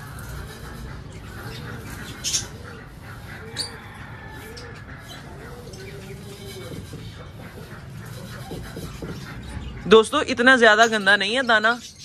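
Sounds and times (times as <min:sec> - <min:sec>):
doves cooing: 0:00.0 - 0:09.9.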